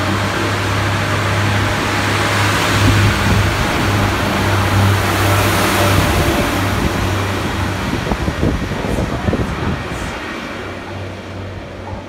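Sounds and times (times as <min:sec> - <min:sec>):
diesel train engine drone: 0:00.0 - 0:12.0.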